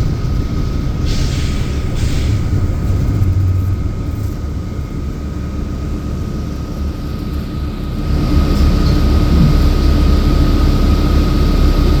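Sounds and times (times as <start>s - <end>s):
bus engine and road rumble: 0.0s - 12.0s
thin steady whine: 0.0s - 12.0s.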